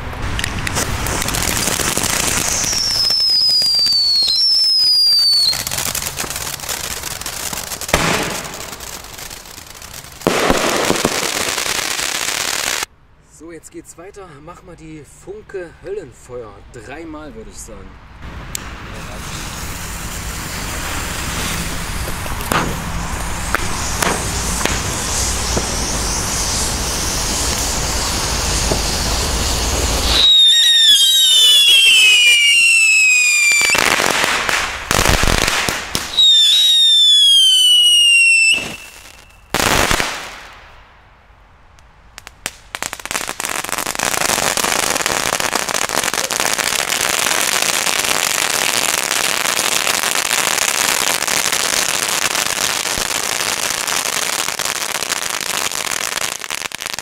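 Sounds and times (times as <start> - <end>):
crackling spark fountain: 0.0 - 12.9, 18.5 - 40.8, 42.1 - 57.0
firework fountain hissing: 0.0 - 12.9, 18.2 - 40.8, 42.2 - 57.0
loud rushing firework burst: 0.0 - 12.9, 18.2 - 40.9, 42.4 - 57.0
falling firework whistles: 0.4 - 12.9, 18.9 - 40.8, 42.4 - 57.0.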